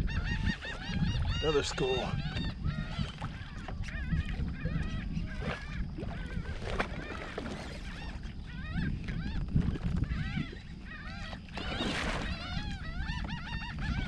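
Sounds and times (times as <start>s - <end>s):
flock of birds calling: 0.0s - 14.0s.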